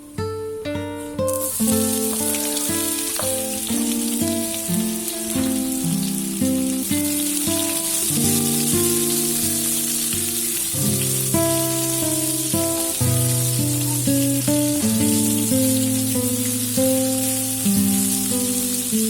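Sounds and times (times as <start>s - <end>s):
plucked guitar-like music: 0.0s - 19.0s
food sizzling in a pan: 0.8s - 19.0s.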